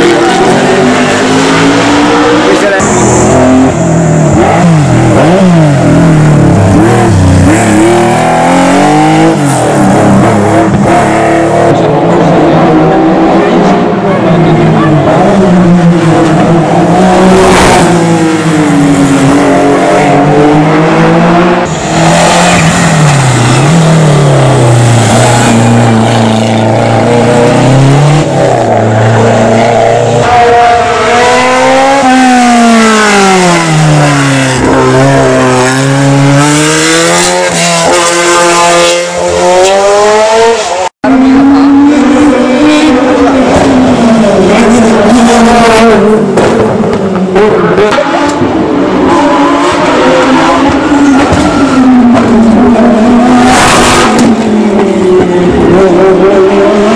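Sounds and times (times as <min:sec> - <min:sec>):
race car engines at full throttle: 0:00.0 - 0:56.9.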